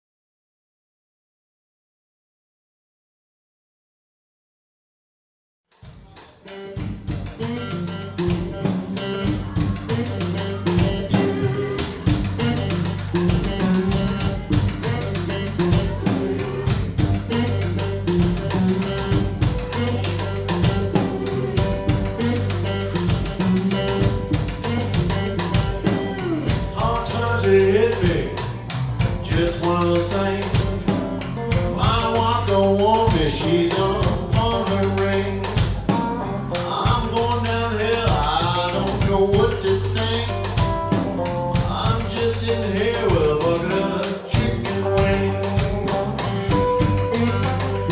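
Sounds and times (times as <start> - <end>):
live blues band playing: 6.1 - 47.9
lead guitar bending notes: 6.3 - 47.9.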